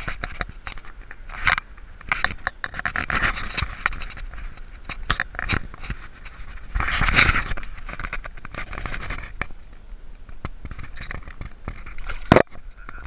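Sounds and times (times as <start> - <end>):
close rustling and scratching: 0.0 - 13.0.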